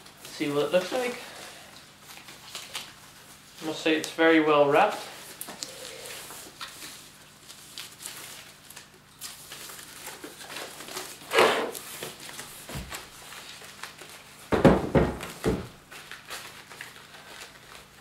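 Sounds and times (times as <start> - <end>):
plastic wrap rustling: 0.0 - 18.0.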